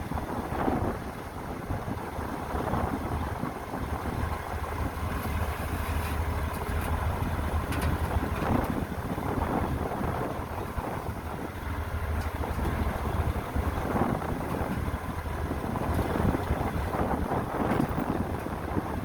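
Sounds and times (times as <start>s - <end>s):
diesel engine rumbling: 0.0s - 19.0s
wind noise on microphone: 0.0s - 19.0s.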